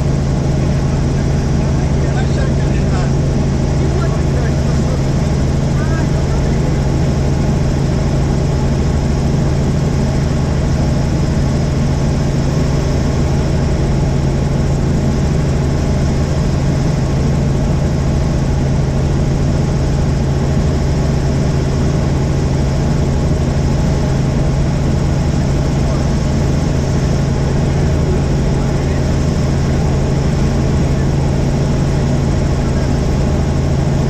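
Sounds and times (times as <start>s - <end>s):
helicopter engine and rotor drone: 0.0s - 34.0s.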